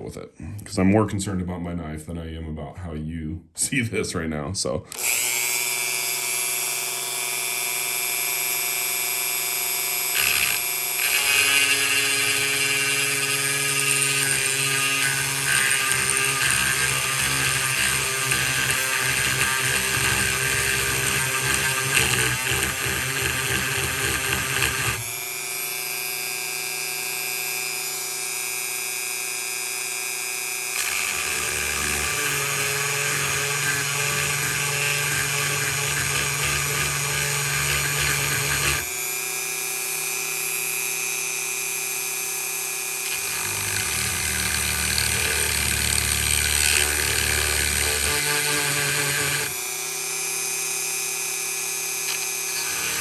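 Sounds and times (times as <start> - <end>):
rotary tool grinding steel: 4.9 - 50.9, 52.0 - 53.0.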